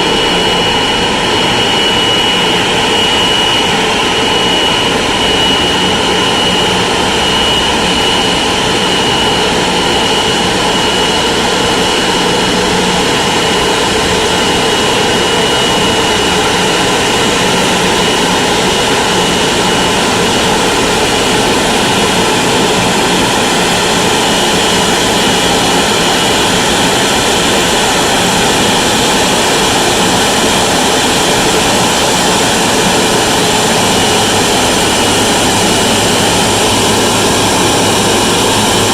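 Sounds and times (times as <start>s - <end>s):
high engine whine: 0.0s - 38.9s
jet engines roaring: 0.0s - 38.9s.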